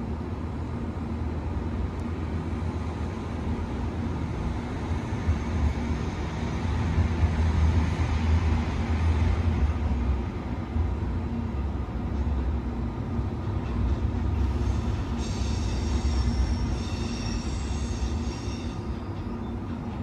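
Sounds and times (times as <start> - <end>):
electric train low hum: 0.0 - 20.0.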